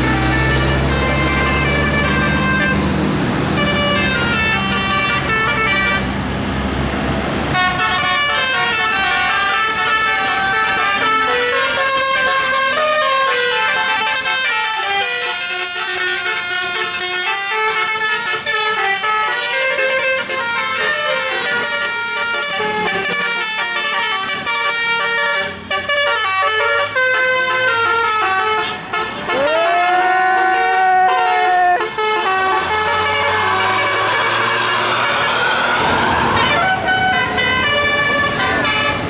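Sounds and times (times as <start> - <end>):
musical air horn melody: 0.0 - 3.0, 3.6 - 6.1, 7.6 - 39.0
bus engine drone: 0.0 - 39.0.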